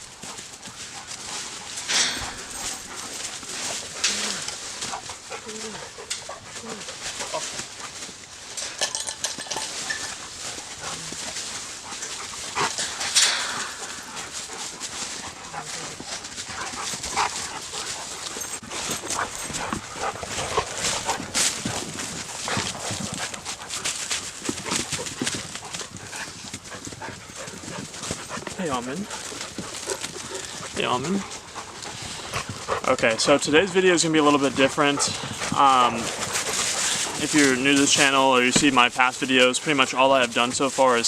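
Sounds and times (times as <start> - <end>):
dogs making small noises: 0.0 - 40.5.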